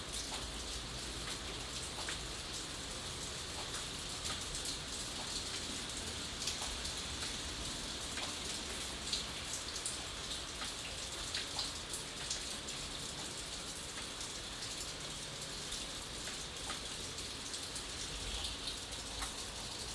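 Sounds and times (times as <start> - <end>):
raindrops ticking on a surface: 0.0 - 19.9.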